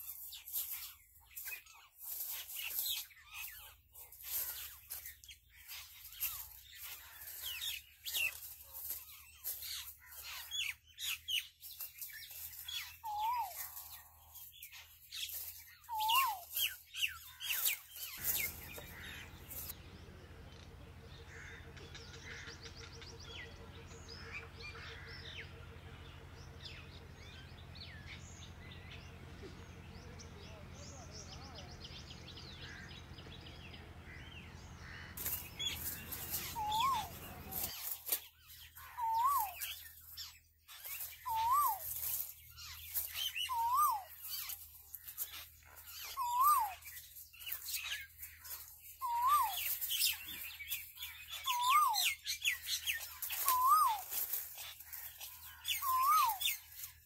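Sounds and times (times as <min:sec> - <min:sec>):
songbirds chirping and whistling: 0:00.0 - 0:57.0.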